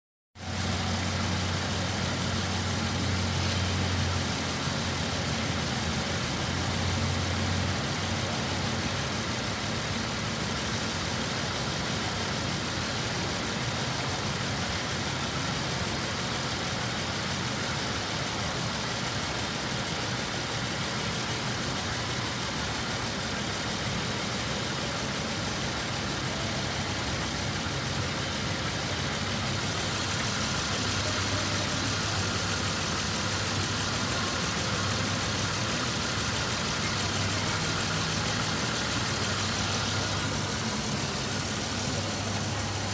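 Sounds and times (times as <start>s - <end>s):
car engine idling: 0.4s - 42.9s.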